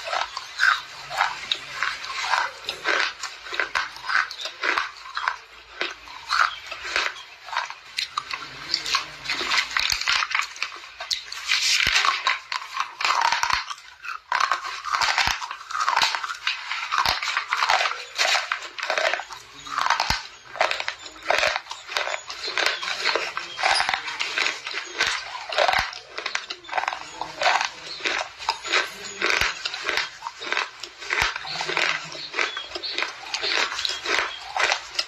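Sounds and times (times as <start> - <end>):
chewing crisp gritty crunches: 0.0 - 35.0.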